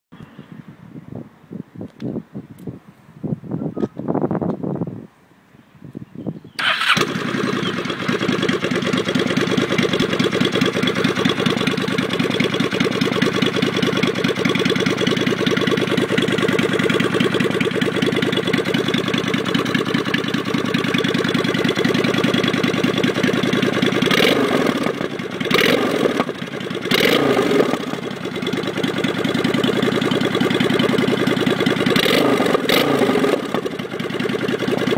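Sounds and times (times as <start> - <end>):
motorcycle engine idling: 6.6 - 34.9.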